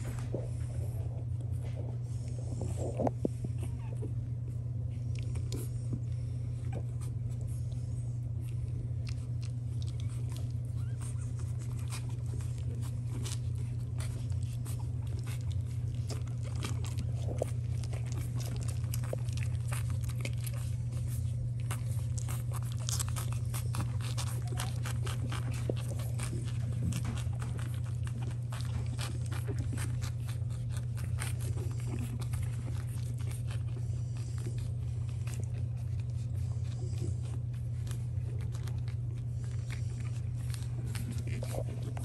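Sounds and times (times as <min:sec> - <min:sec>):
constant low hum: 0:00.0 - 0:42.0
puppies suckling wet smacking: 0:00.0 - 0:42.0.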